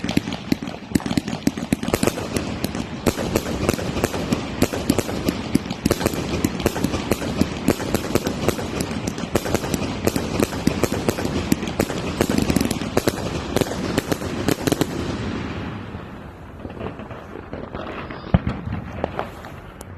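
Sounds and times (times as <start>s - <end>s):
fireworks crackling and banging: 0.0s - 19.9s.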